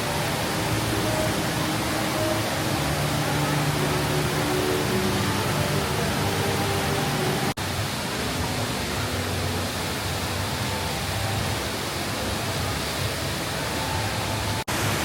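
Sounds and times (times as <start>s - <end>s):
indoor waterfall rushing: 0.0s - 15.0s.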